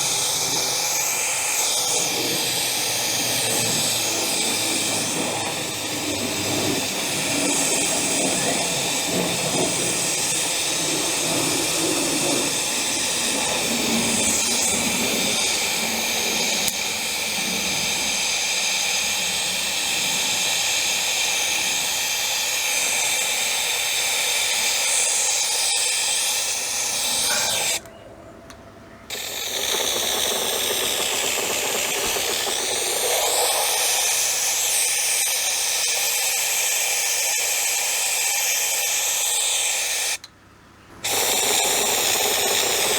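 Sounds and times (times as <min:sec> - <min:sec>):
tool hissing rush: 0:00.0 - 0:27.8, 0:29.1 - 0:40.3, 0:41.0 - 0:42.9.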